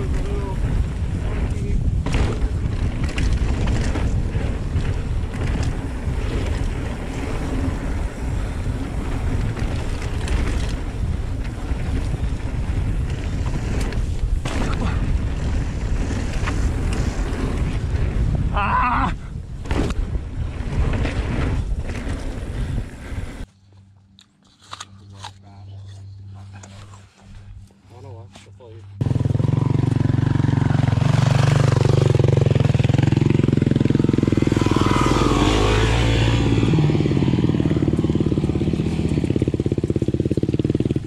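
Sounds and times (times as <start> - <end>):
wind buffeting camera: 0.0 - 23.5, 29.2 - 41.0.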